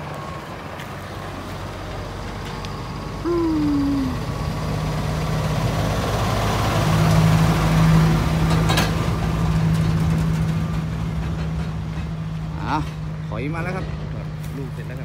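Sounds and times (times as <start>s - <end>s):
tyre noise on dirt road: 0.0s - 4.2s, 7.0s - 15.0s
diesel truck driving past: 0.0s - 15.0s.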